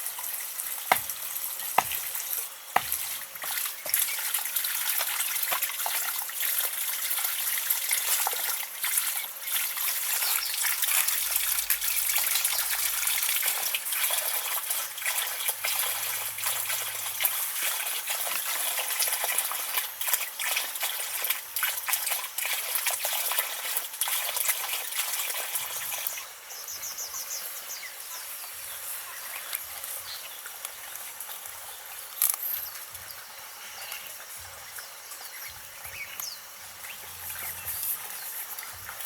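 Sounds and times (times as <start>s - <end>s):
water splashing and trickling: 0.0s - 39.0s.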